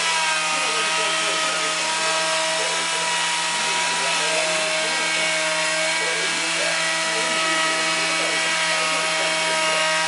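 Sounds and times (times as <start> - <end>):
wood lathe humming: 0.0 - 10.0.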